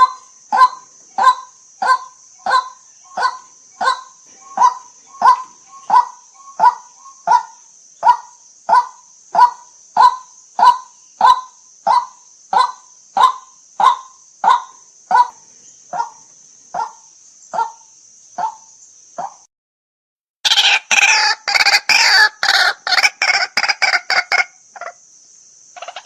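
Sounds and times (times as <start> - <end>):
waterhen calling kwak: 0.0 - 16.2, 20.4 - 25.0, 25.8 - 26.0.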